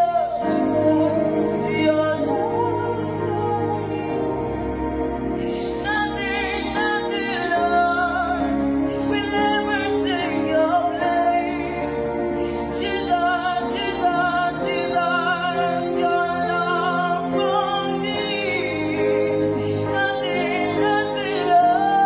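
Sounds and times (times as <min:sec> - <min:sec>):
man singing with vibrato: 0:00.0 - 0:04.4, 0:05.5 - 0:22.0
sustained backing chords: 0:00.0 - 0:22.0.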